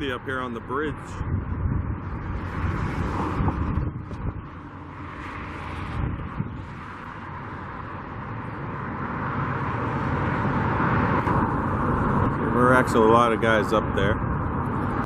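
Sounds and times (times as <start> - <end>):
road traffic: 0.0 - 15.0
wind buffeting microphone: 0.0 - 15.0
vehicle passing: 1.0 - 15.0.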